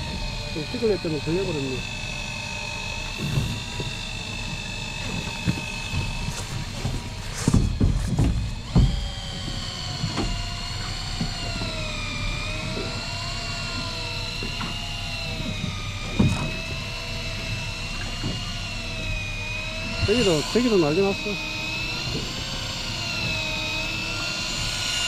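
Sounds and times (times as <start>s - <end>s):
motor whining: 0.0s - 25.0s.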